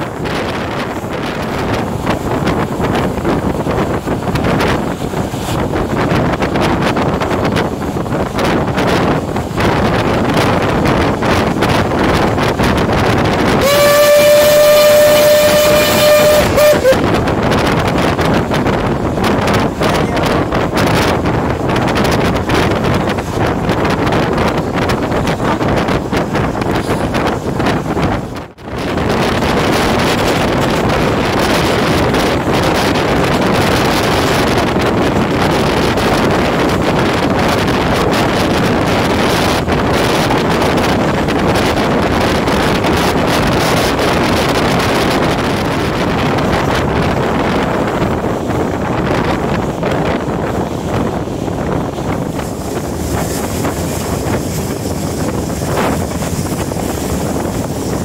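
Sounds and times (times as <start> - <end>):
moving train rumble: 0.0 - 58.0
wind buffeting microphone: 0.0 - 58.0.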